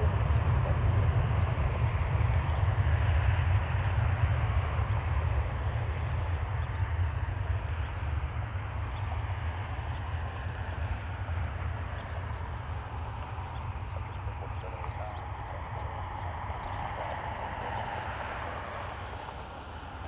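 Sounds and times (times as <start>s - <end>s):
jet airliner engine: 0.0s - 20.0s
wind rumbling on microphone: 0.0s - 20.0s.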